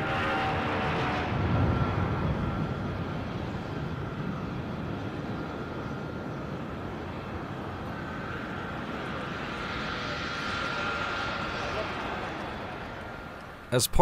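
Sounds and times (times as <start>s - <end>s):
faint jet whine: 0.0s - 14.0s
jet engine roar: 0.0s - 14.0s.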